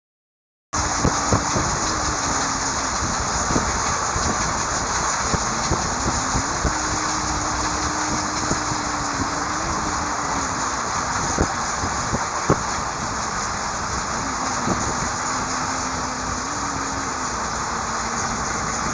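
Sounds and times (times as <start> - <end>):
train rumbling: 0.8 - 18.9.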